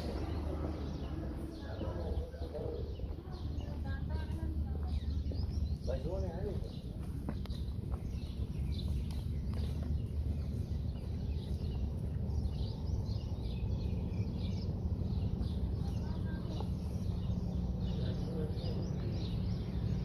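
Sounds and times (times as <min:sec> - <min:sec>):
low outdoor rumble: 0:00.0 - 0:20.0
small birds chirping: 0:00.0 - 0:20.0.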